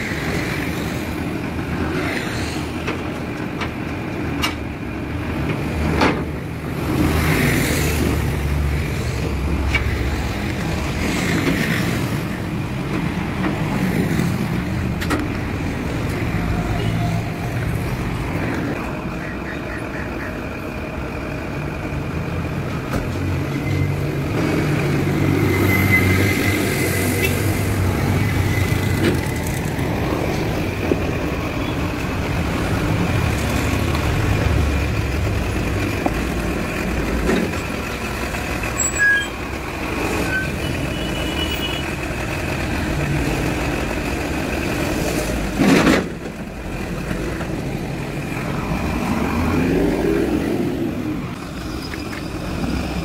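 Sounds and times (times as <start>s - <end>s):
truck moving off: 0.0s - 53.0s.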